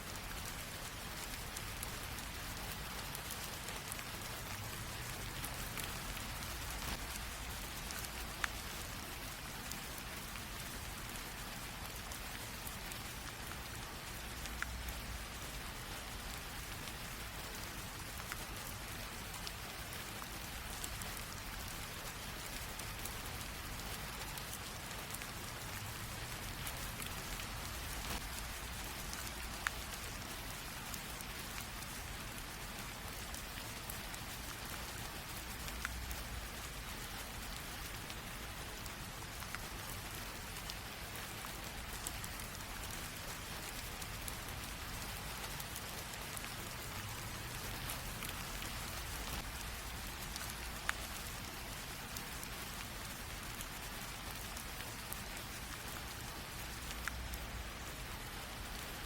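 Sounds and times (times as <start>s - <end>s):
light rain hiss: 0.0s - 59.0s.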